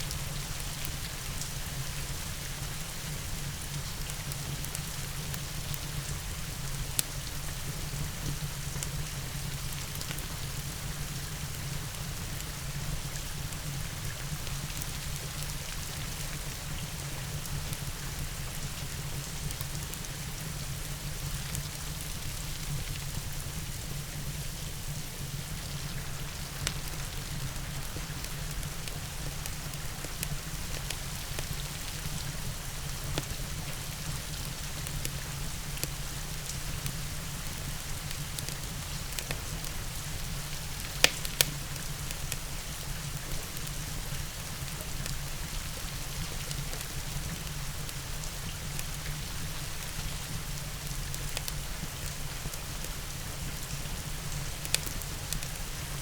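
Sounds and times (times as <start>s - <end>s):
fireplace fire crackling: 0.0s - 56.0s
steady rain: 0.0s - 56.0s.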